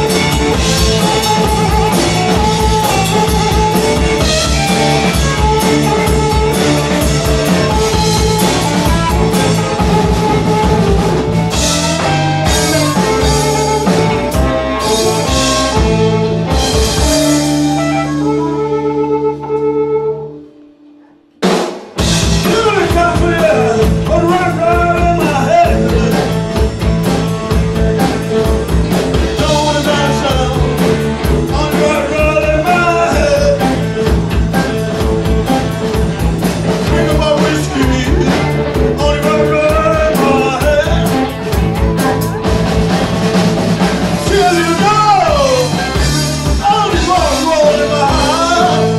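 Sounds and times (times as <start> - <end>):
bending electric guitar lead: 0.0 - 48.9
blues-rock band playing: 0.0 - 48.9.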